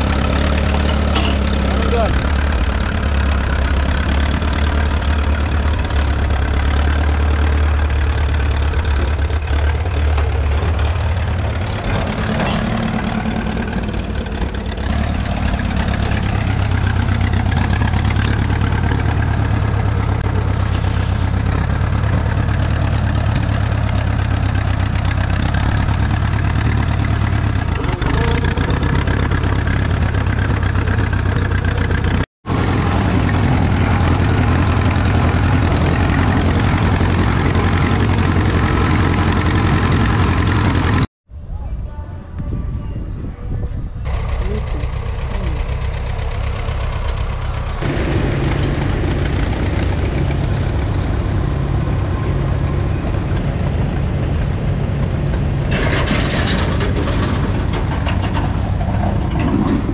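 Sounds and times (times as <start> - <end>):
tractor engine running: 0.0 - 41.1, 44.0 - 59.9.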